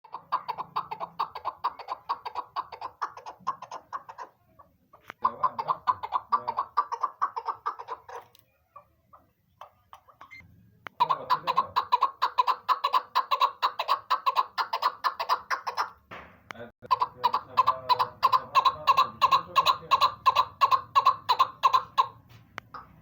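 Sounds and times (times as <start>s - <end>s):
partridge clucking calls: 0.0s - 16.0s, 16.8s - 23.0s.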